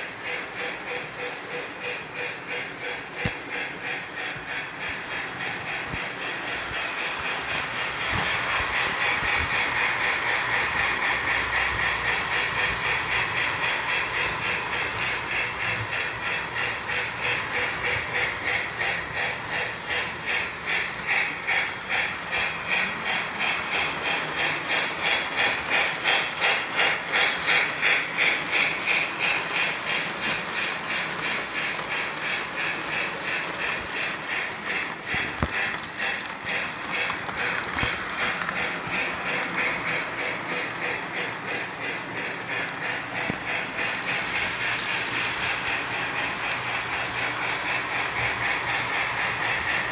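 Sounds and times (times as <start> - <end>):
model train whirring and clattering: 0.0 - 49.9.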